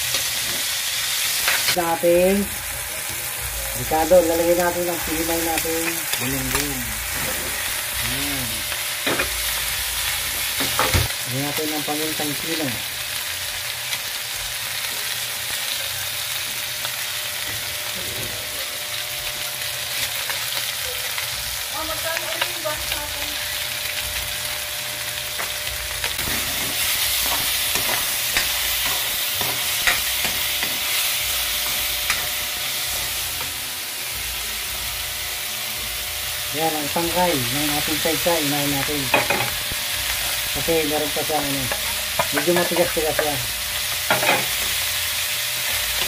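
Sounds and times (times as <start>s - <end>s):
oil sizzling in a wok: 0.0s - 46.0s.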